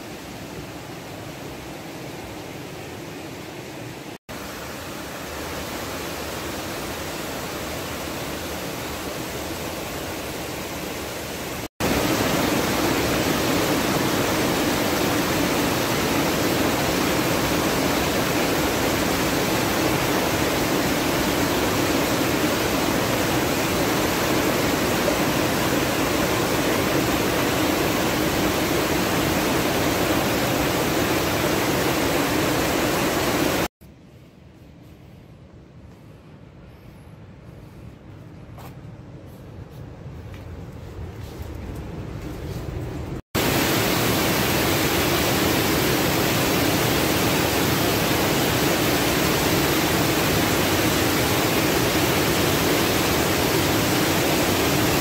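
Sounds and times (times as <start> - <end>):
stream rushing over rocks: 0.0 - 33.7, 43.4 - 55.0.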